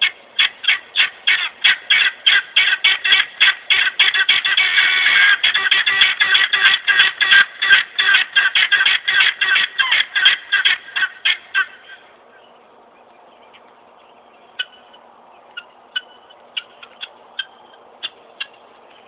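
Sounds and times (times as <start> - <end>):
guinea fowl calling harshly: 0.0 - 12.6, 13.4 - 19.0.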